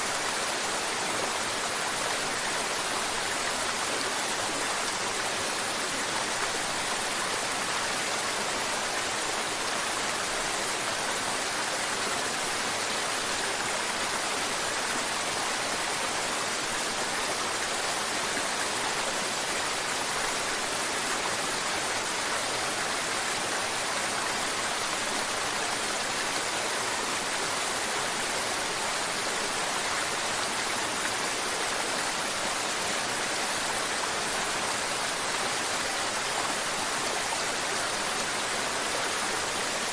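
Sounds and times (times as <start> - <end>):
mountain river water flowing: 0.0 - 39.9.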